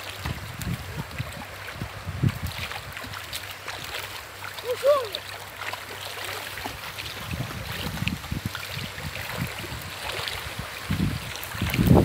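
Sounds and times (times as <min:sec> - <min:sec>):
stream water rushing: 0:00.0 - 0:12.0
water sloshing around wading legs: 0:00.0 - 0:12.0.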